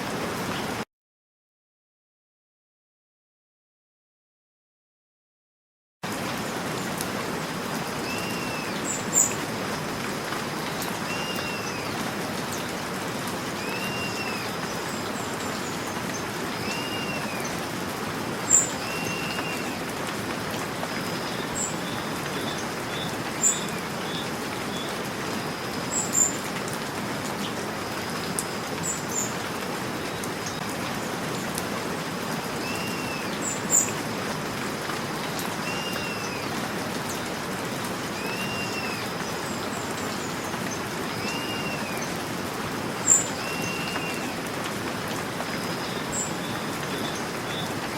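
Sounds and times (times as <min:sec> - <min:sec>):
steady rain: 0:00.0 - 0:00.8, 0:06.0 - 0:47.9.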